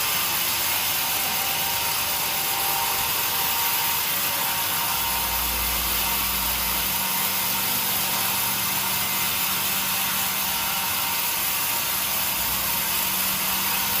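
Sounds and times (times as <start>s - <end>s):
sawmill machinery hissing and humming: 0.0s - 14.0s.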